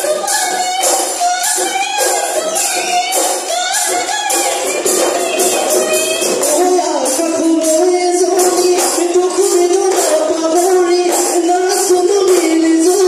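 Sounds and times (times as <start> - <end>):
dhol drums: 0.0 - 13.0
jingling percussion: 0.0 - 13.0.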